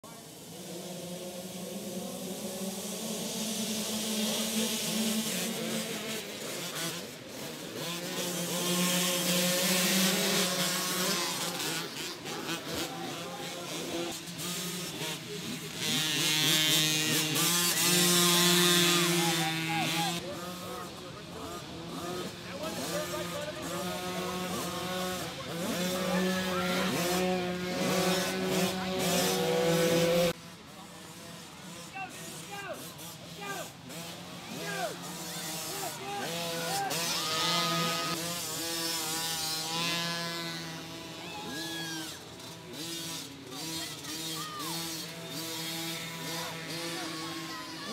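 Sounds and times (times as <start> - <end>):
mini dirt bike engines buzzing: 0.0 - 47.9.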